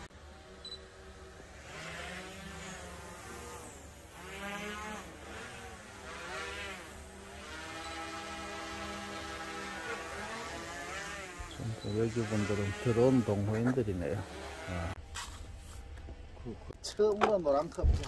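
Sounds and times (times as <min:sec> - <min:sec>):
drones buzzing: 0:00.0 - 0:16.8.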